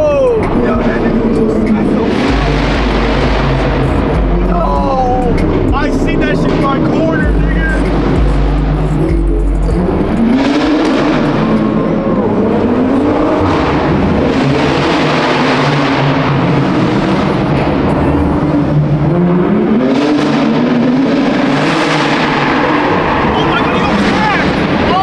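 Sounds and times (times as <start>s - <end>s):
car engine revving: 0.0s - 25.0s
loud rush of noise: 0.0s - 25.0s.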